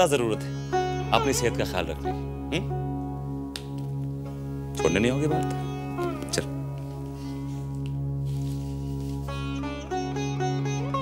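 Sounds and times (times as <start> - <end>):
low music drone: 0.0 - 11.0.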